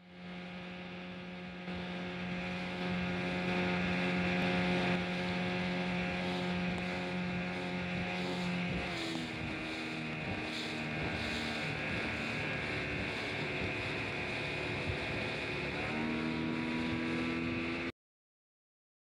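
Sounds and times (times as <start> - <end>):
outboard motor running: 0.0 - 17.9
wind and spray hiss: 2.1 - 17.6.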